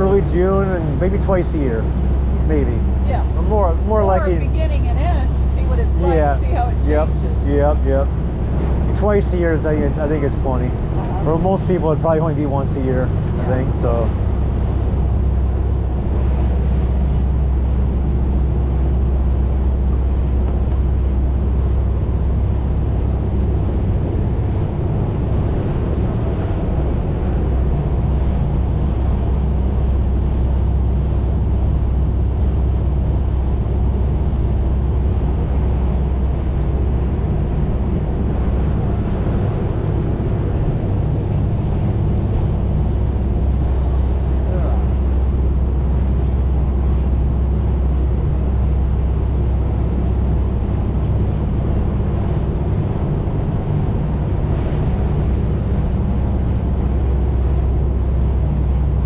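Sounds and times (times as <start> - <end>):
boat engine droning: 0.0 - 59.0
water rushing: 0.0 - 59.0.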